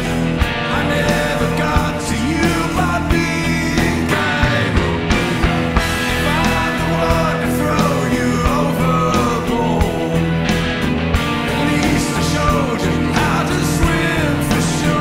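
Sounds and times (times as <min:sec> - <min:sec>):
live rock band playing: 0:00.0 - 0:15.0
sliding lead melody: 0:00.0 - 0:15.0.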